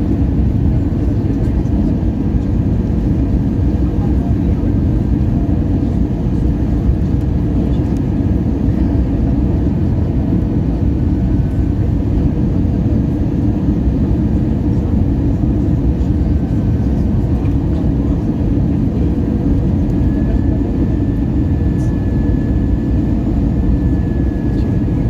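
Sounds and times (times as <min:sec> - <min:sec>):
aircraft cabin engine rumble: 0:00.0 - 0:25.0.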